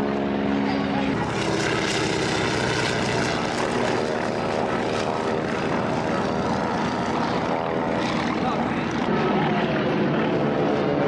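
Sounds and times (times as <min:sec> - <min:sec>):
propeller airplane engine: 0:00.0 - 0:11.0.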